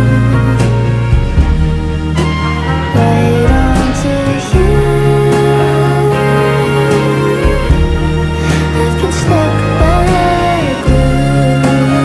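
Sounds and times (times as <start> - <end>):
bass line: 0.0 - 12.0
held melody line: 0.0 - 12.0
sustained chords: 0.0 - 12.0.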